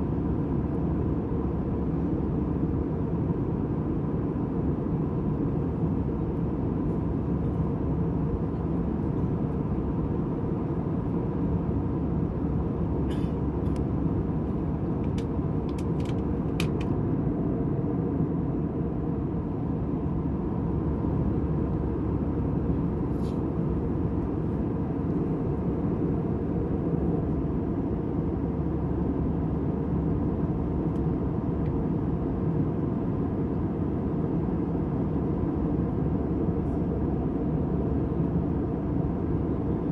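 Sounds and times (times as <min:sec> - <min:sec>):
airliner cabin noise: 0:00.2 - 0:39.9.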